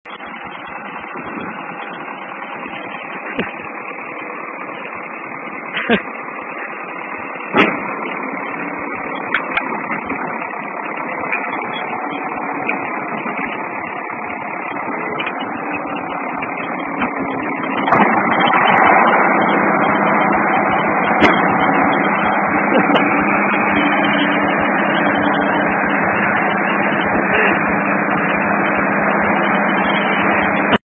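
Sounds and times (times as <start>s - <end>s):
steady engine hum: 0.0s - 30.8s
tractor engines running: 0.0s - 30.8s.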